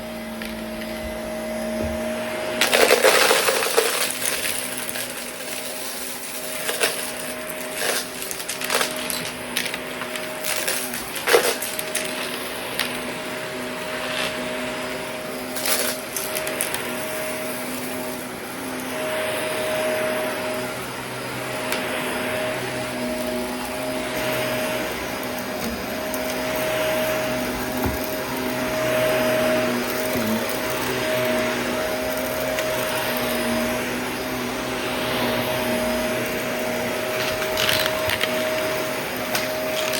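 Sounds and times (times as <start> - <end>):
vacuum cleaner running: 0.0 - 39.9
debris rattling in vacuum: 0.1 - 39.9.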